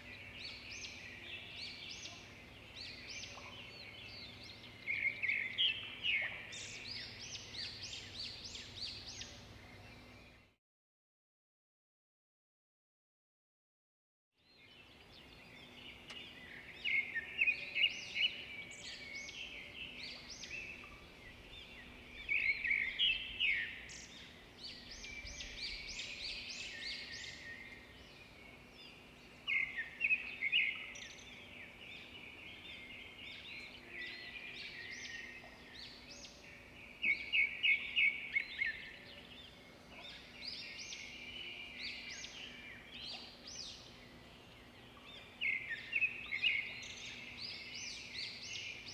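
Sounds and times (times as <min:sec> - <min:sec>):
birds chirping and trilling: 0:00.0 - 0:10.6, 0:14.4 - 0:48.9.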